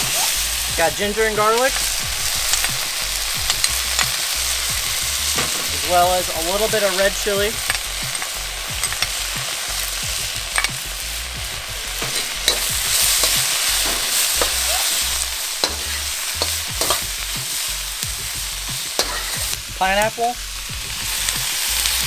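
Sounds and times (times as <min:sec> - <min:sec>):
vegetables sizzling in hot oil: 0:00.0 - 0:22.0
metal spatula scraping a wok: 0:01.7 - 0:19.6.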